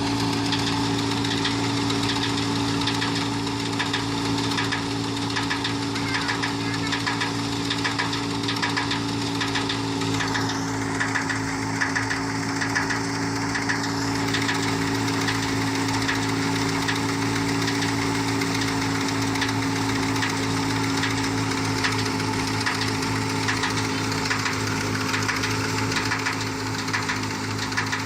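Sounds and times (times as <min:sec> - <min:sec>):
engine running steadily: 0:00.0 - 0:28.0
fast clicking rattle: 0:00.1 - 0:28.0.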